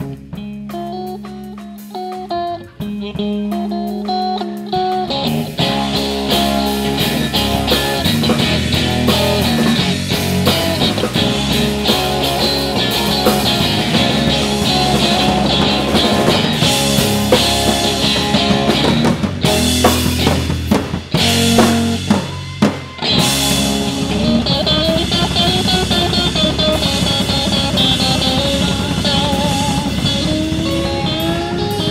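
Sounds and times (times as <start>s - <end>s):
bass guitar: 0.0s - 31.9s
drum kit: 0.0s - 31.9s
electric guitar: 0.0s - 31.9s.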